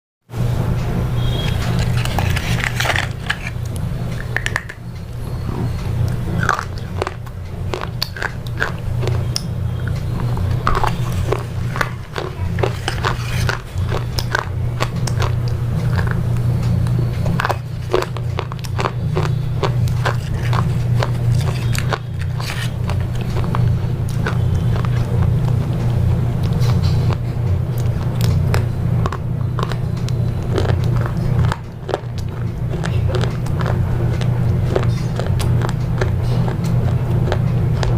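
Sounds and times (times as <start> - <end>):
steady low hum: 0.3 - 37.9
sharp crunches and clicks: 1.2 - 37.9.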